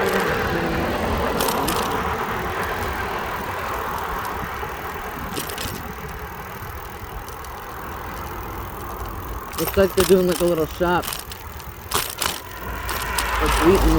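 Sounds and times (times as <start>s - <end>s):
bicycle road noise: 0.0s - 13.9s
short rattles: 0.0s - 13.9s.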